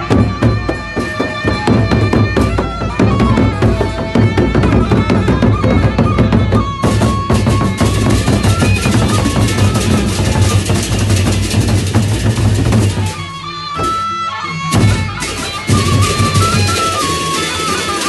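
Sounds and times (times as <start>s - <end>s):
large drums beating fast: 0.0s - 13.2s, 14.7s - 18.0s.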